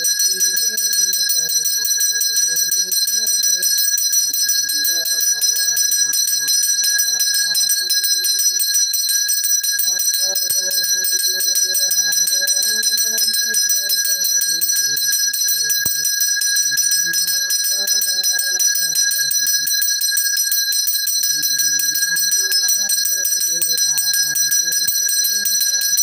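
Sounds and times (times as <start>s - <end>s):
man chanting: 0.0s - 8.8s, 9.6s - 20.2s, 20.9s - 26.0s
hand bell ringing rapidly: 0.0s - 26.0s.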